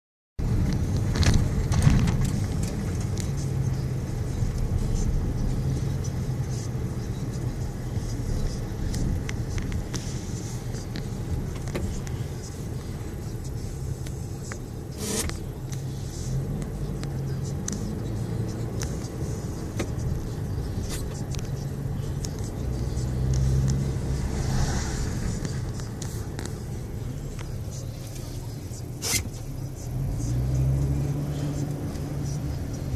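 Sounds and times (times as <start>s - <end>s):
engine and road rumble: 0.4s - 32.9s.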